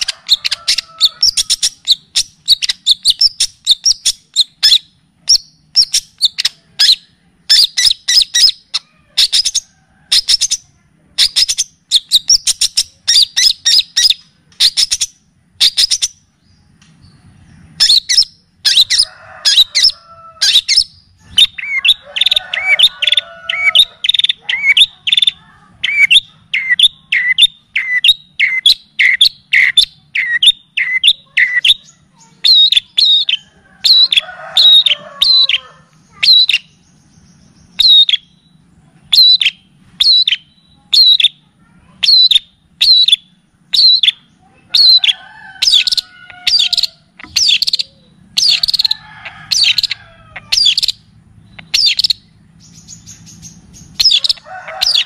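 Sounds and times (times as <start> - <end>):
bird chirping and whistling: 0.0 - 10.6, 11.2 - 16.3, 17.8 - 41.4, 42.0 - 55.0.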